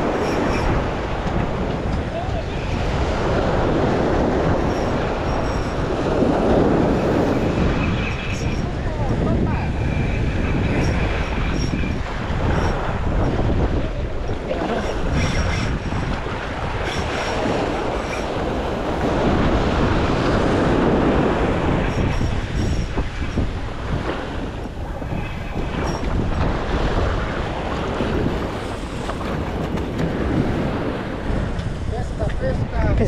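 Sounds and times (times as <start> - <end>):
surf washing up the beach: 0.0 - 33.0
wind buffeting the microphone: 0.0 - 33.0.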